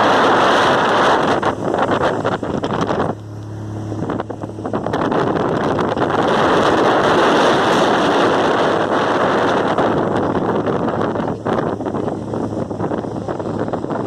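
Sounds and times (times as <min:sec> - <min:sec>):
boat engine hum: 0:00.0 - 0:14.0
wind rushing over microphone: 0:00.0 - 0:14.0.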